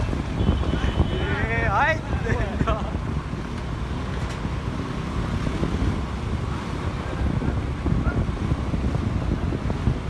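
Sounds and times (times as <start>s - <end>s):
moving vehicle noise: 0.0s - 10.0s
wind buffeting microphone: 0.0s - 10.0s.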